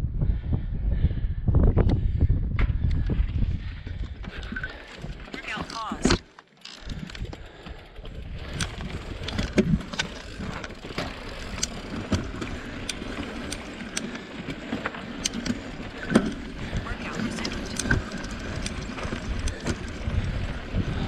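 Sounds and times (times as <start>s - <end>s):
bike tyres rumbling on gravel: 2.5s - 21.0s.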